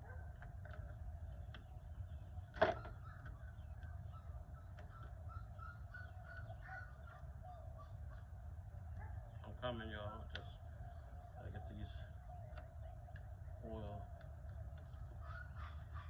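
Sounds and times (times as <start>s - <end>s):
faint bird calls: 0.0s - 16.0s
low steady rumble: 0.0s - 16.0s.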